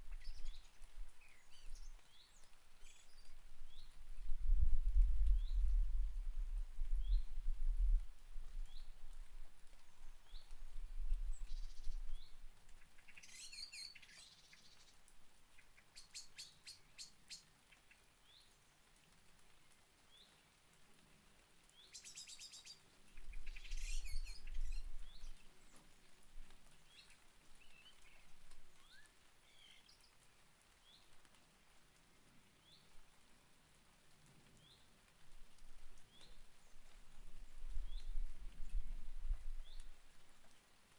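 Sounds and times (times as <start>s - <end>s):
small songbirds chirping and trilling: 0.0s - 7.4s, 8.5s - 20.7s, 21.6s - 31.2s, 32.0s - 33.5s, 34.5s - 35.0s, 35.9s - 40.5s
light rain hiss: 0.0s - 40.9s.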